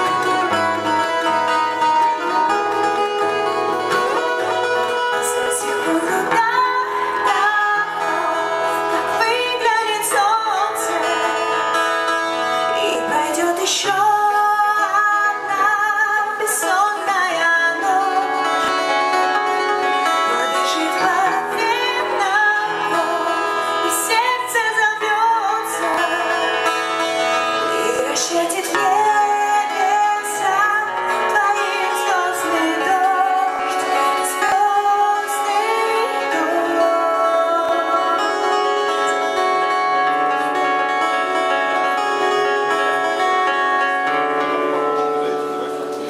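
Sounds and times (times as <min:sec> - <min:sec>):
woman singing: 0:00.0 - 0:43.3
plucked strings: 0:00.0 - 0:46.0.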